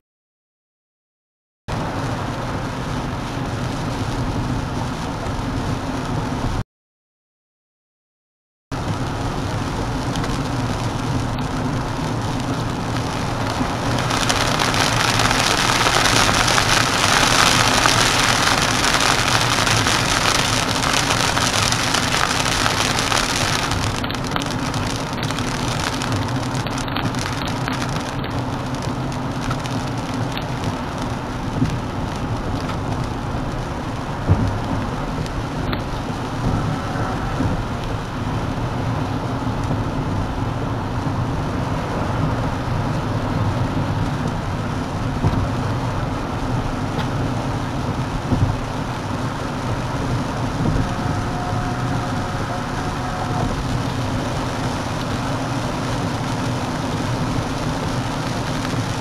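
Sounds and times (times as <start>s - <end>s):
heavy rain on car: 1.7s - 6.6s, 8.8s - 59.0s
tyre and road noise: 8.8s - 59.0s.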